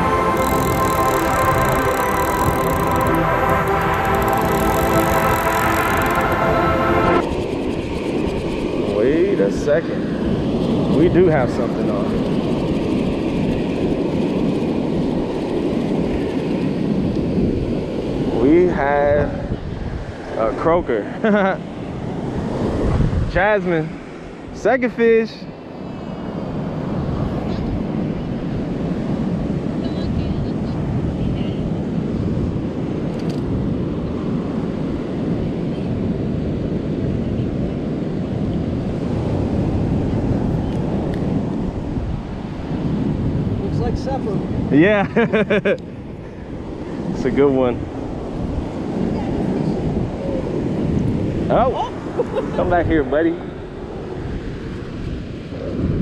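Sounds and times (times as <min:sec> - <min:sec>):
wind noise on microphone: 0:00.0 - 0:24.6, 0:25.6 - 0:56.0
ocean surf: 0:00.0 - 0:56.0.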